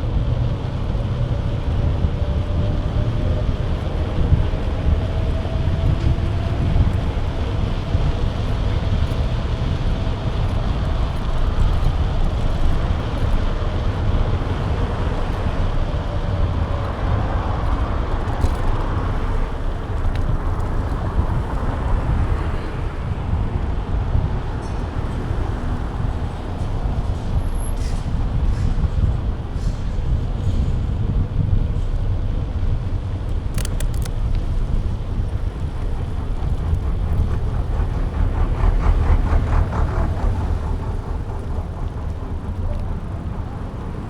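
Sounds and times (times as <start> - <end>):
road noise: 0.0 - 44.0
wind buffeting microphone: 0.0 - 44.0.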